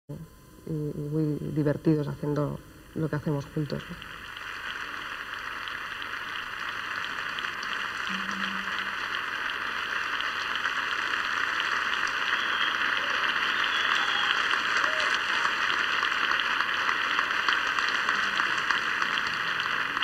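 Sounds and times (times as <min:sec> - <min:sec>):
audience applauding: 0:03.5 - 0:20.0.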